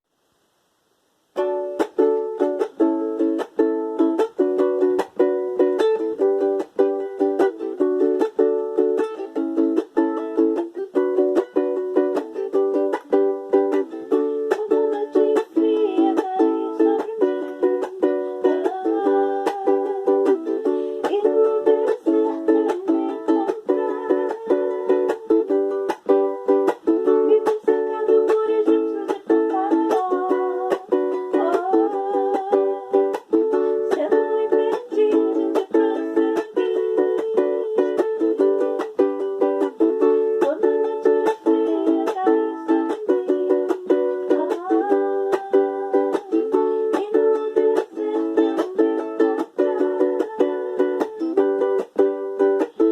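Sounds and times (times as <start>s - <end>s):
ukulele strumming: 1.3s - 52.9s.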